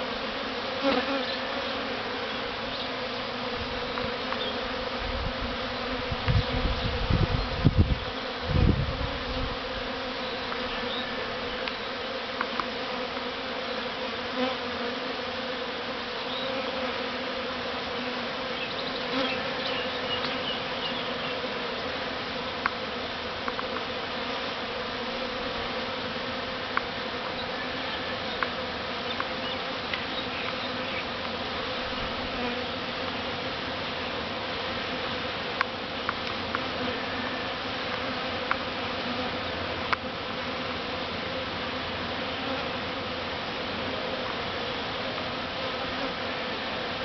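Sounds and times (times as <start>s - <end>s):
bee swarm buzzing: 0.0s - 47.0s.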